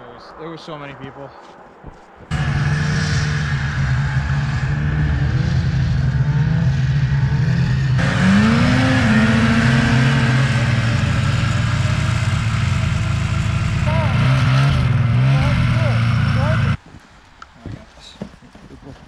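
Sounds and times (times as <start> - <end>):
snowmobile engines droning: 0.0 - 16.8.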